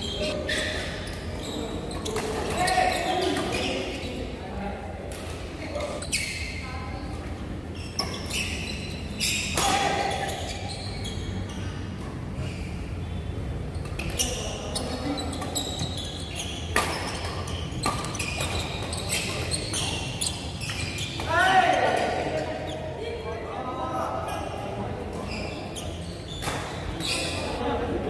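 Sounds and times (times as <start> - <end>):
shoes squeaking on court: 0.0 - 4.4, 5.1 - 23.0, 24.2 - 27.8.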